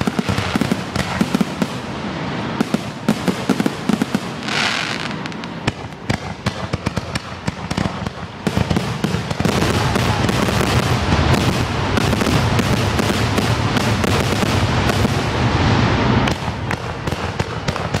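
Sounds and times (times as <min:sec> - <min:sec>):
fireworks bangs and crackle: 0:00.0 - 0:18.0.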